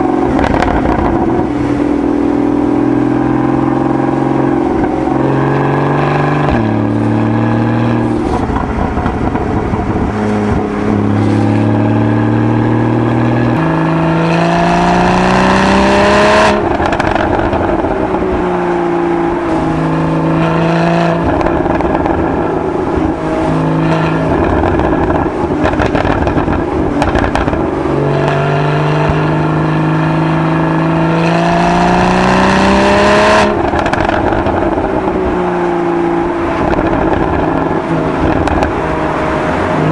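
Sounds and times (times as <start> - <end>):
sports car engine accelerating: 0.0 - 39.9.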